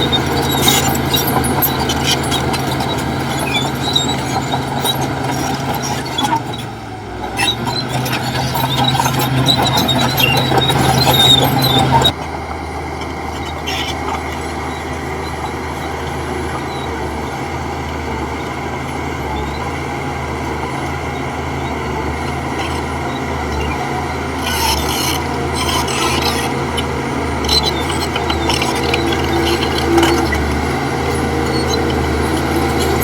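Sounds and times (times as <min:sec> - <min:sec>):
diesel engine running: 0:00.0 - 0:33.0
metal scraping and squealing: 0:00.0 - 0:33.0.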